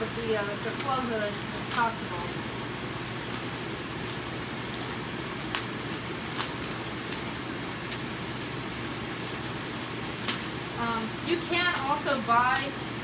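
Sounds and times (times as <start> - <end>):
blower humming: 0.0 - 13.0.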